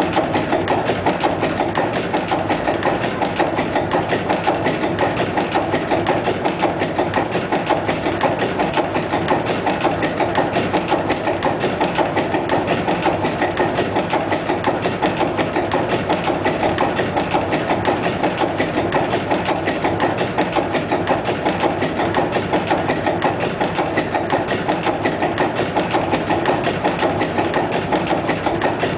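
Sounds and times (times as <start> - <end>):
engine running with mechanical tapping: 0.0 - 28.9.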